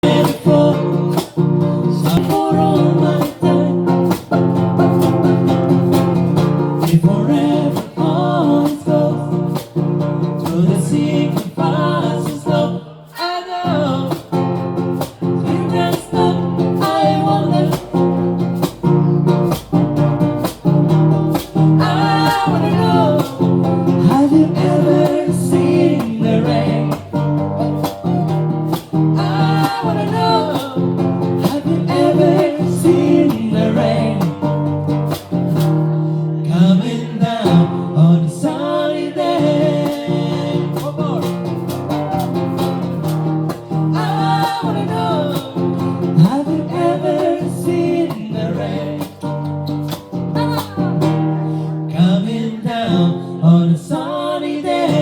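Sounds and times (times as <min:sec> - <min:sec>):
person singing: 0:00.0 - 0:19.2, 0:21.3 - 0:34.7, 0:35.8 - 0:55.0
acoustic guitar strumming: 0:00.0 - 0:55.0.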